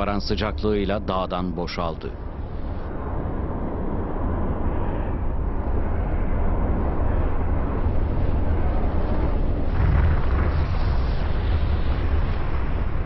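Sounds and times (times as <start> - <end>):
deep rumble of volcanic eruption: 0.0 - 13.0.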